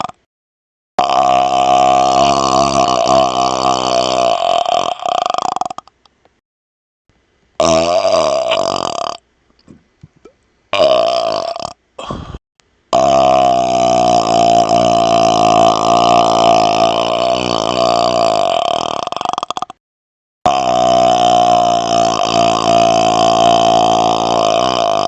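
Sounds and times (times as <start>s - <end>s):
man burping: 0.0s - 0.3s, 1.0s - 5.9s, 7.6s - 9.2s, 10.2s - 19.8s, 20.5s - 25.0s.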